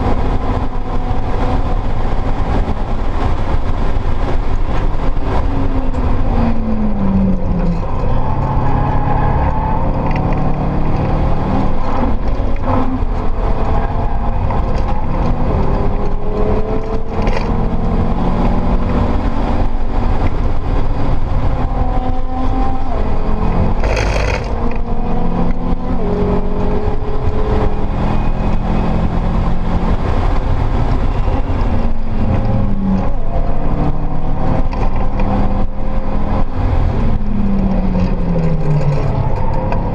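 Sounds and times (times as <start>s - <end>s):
road and wind noise: 0.0s - 39.9s
turbocharged car engine accelerating: 0.0s - 39.9s.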